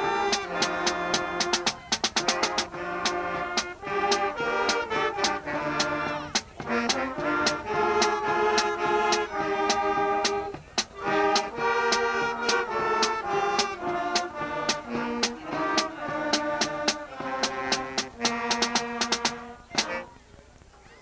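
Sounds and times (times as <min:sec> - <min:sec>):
sharp percussion hits: 0:00.0 - 0:20.0
school band brass playing: 0:00.0 - 0:20.2.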